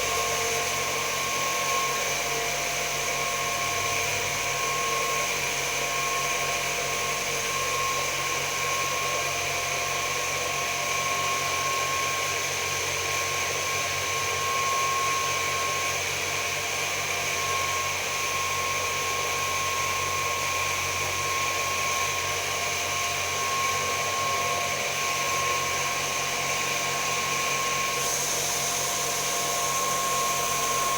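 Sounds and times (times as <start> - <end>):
humidifier motor and fan whine: 0.0 - 30.9.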